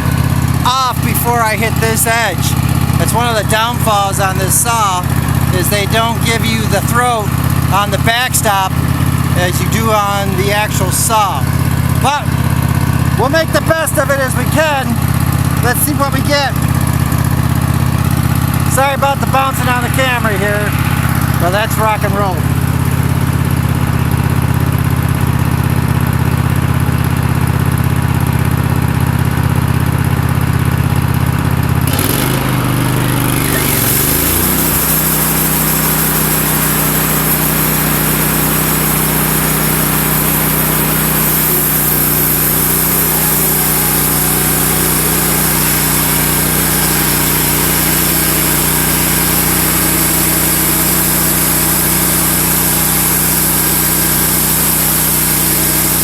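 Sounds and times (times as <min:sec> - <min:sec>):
bandsaw cutting log: 0:00.0 - 0:23.8, 0:31.6 - 0:56.0.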